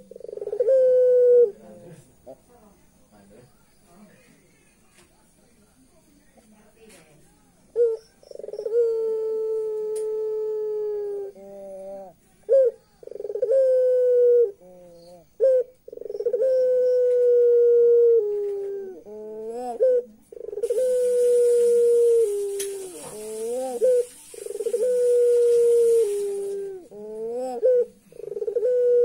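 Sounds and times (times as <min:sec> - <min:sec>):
dove cooing: 0:00.0 - 0:02.5, 0:07.7 - 0:29.0.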